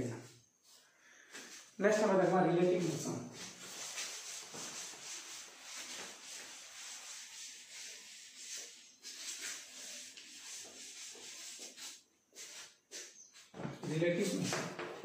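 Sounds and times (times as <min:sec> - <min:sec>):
cloth wiping a chalkboard: 0:00.2 - 0:15.0.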